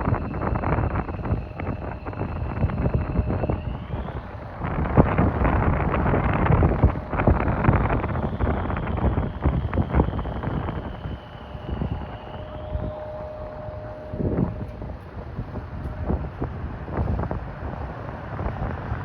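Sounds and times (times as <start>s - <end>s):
faint high whine: 0.0s - 19.0s
jet engine rumble: 0.0s - 19.0s
wind buffeting microphone: 0.0s - 19.0s.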